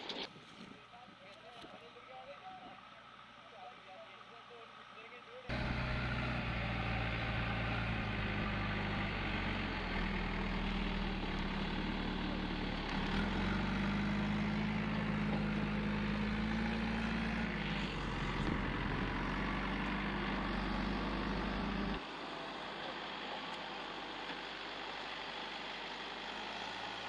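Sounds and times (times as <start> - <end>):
diesel engine running: 4.2 - 27.0.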